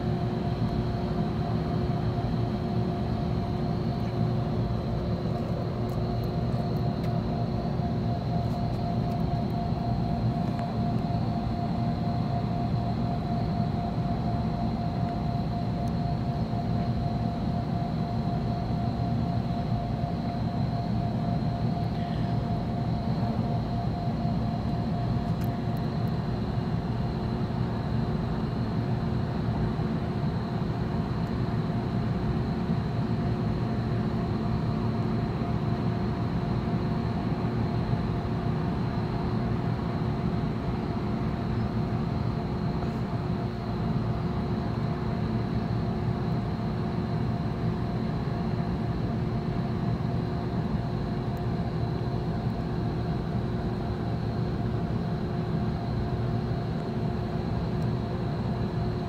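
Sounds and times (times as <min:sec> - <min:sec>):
low mechanical hum and rumble: 0:00.0 - 0:59.0.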